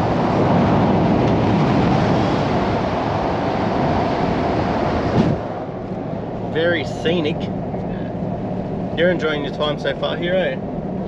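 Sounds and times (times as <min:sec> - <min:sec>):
car road noise from inside: 0:00.0 - 0:11.0.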